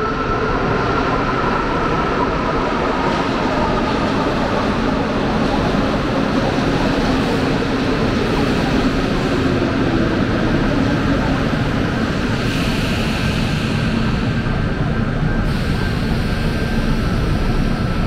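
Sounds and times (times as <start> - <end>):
train rumble and motor hum: 0.0 - 18.0.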